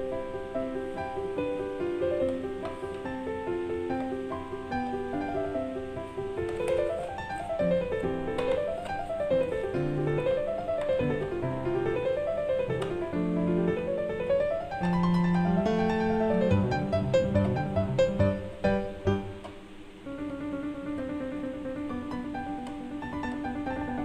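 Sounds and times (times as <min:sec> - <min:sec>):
piano arpeggios: 0:00.0 - 0:24.0.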